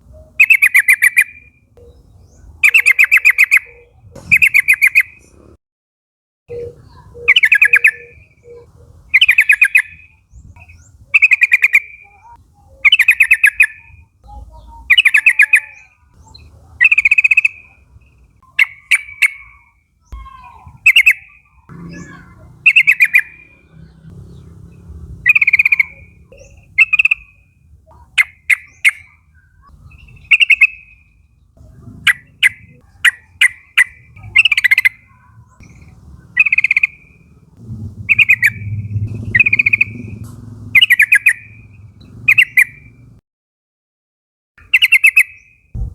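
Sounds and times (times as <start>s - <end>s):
bird chattering calls: 0.3s - 5.5s, 6.5s - 43.2s, 44.6s - 45.5s.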